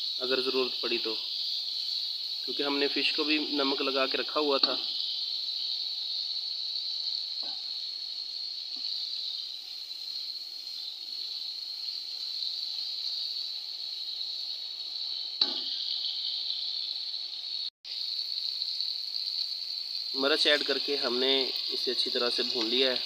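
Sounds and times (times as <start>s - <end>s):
curry sizzling in hot oil: 0.0s - 23.0s.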